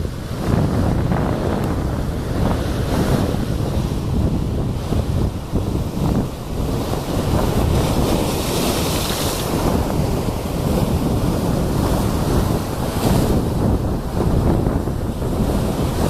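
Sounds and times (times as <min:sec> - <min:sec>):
waves washing onto shore: 0:00.0 - 0:16.0
wind buffeting microphone: 0:00.0 - 0:16.0.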